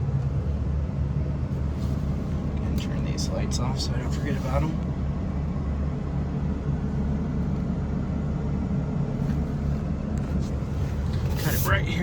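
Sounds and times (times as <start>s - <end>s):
diesel engine low rumble: 0.0s - 12.0s.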